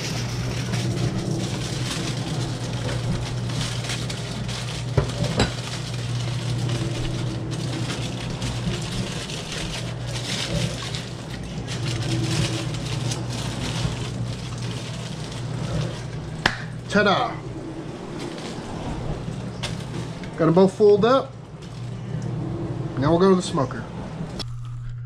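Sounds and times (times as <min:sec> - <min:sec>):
aluminium foil crinkling: 0:00.0 - 0:17.1, 0:18.1 - 0:20.7, 0:21.4 - 0:22.2
steady low hum: 0:00.0 - 0:25.0.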